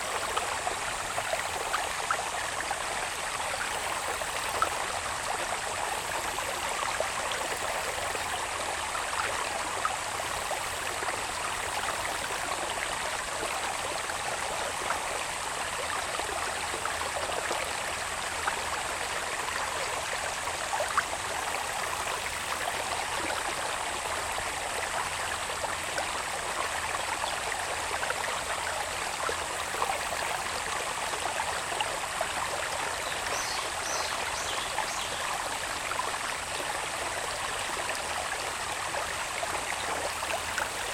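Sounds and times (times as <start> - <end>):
water babbling in a channel: 0.0 - 40.9.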